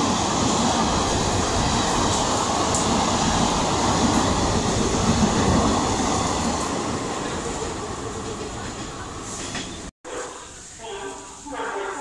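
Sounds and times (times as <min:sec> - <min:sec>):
train coaches passing at speed: 0:00.0 - 0:12.0.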